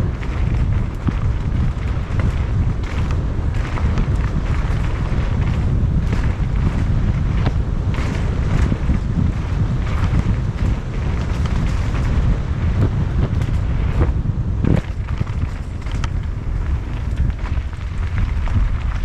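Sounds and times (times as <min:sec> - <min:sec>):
bike knocks and rattles over rocks: 0:00.0 - 0:19.0
wind buffeting microphone: 0:00.0 - 0:19.0.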